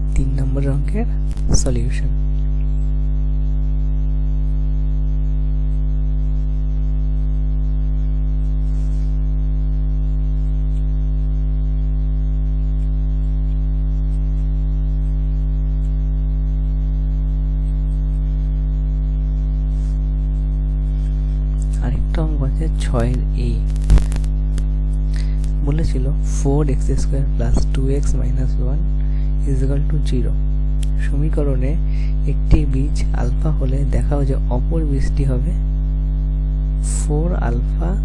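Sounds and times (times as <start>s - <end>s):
electrical mains hum: 0.0s - 38.0s.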